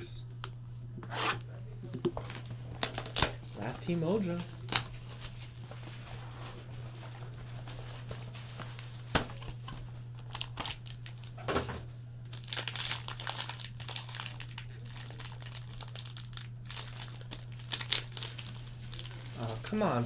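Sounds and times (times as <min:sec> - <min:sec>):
low electrical hum: 0:00.0 - 0:20.0
plastic wrapping crinkling: 0:02.0 - 0:11.6, 0:12.2 - 0:20.0.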